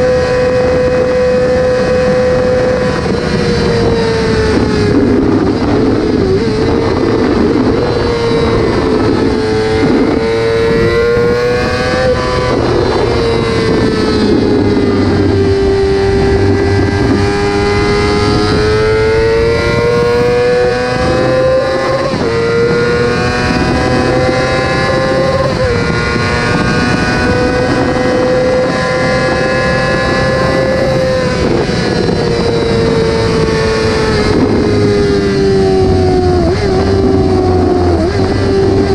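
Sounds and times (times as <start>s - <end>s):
motorcycle engine revving high: 0.0s - 38.9s.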